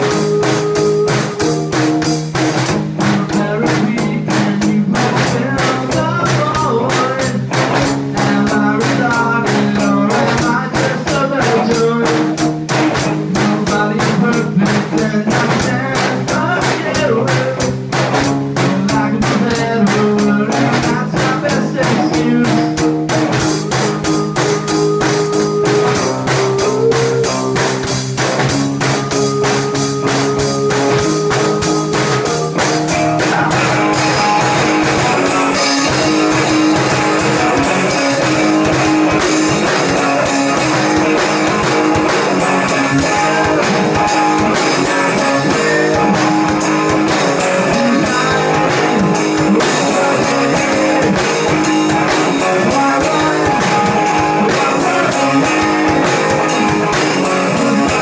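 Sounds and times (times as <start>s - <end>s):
drum kit rock beat: 0.0s - 58.0s
electric guitar: 0.0s - 58.0s
man singing into microphone: 3.0s - 17.8s, 18.6s - 22.9s, 24.6s - 27.8s, 32.9s - 58.0s.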